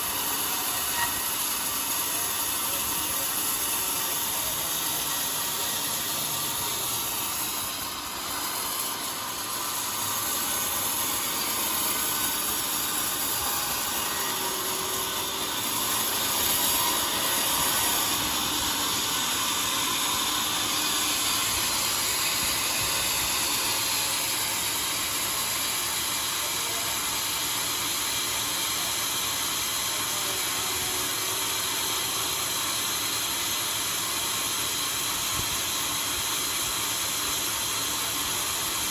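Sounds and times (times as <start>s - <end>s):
sawmill saw cutting a log: 0.0s - 38.9s.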